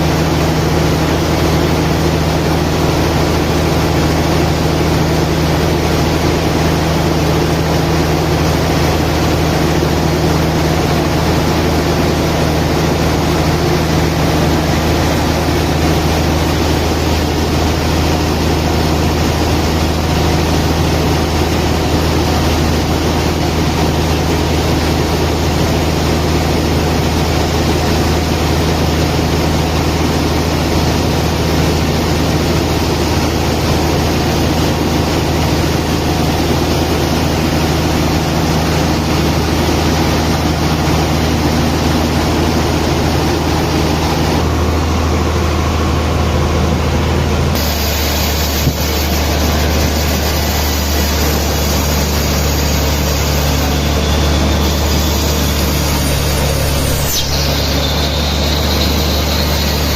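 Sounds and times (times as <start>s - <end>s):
heavy machinery droning: 0.0s - 59.9s.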